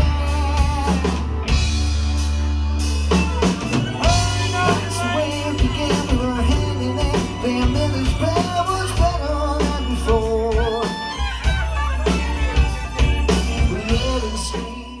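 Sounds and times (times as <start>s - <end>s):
bass guitar: 0.0s - 15.0s
drums: 0.0s - 15.0s
gliding lead melody: 0.0s - 15.0s
keyboard: 0.0s - 15.0s.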